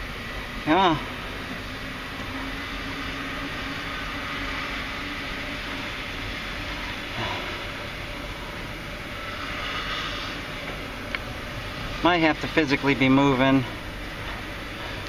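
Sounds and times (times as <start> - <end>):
machine cab rumble and hiss: 0.0 - 15.0.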